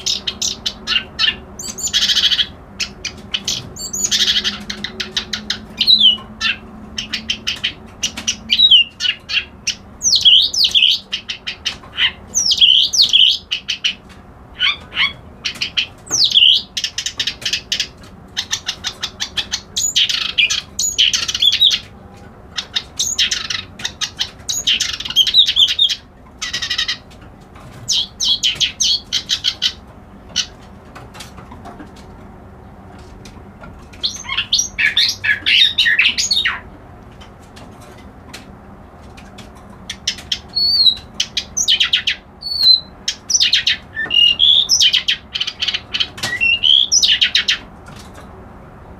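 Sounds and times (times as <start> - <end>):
warbler singing: 0.0 - 30.6, 33.8 - 36.7, 39.9 - 47.7.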